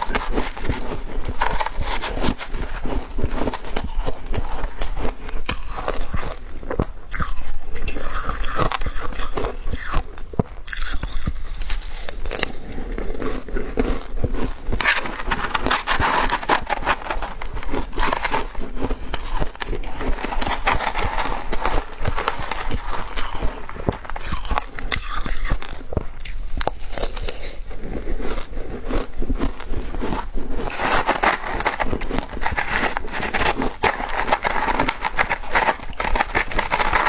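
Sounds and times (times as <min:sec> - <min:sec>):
ice being chewed: 0:00.0 - 0:37.0.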